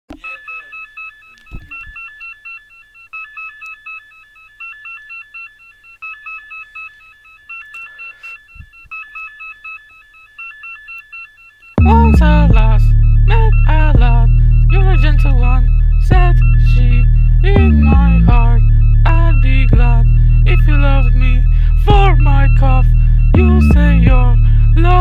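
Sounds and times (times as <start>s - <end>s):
mobile phone ringtone beeps: 0.2s - 25.0s.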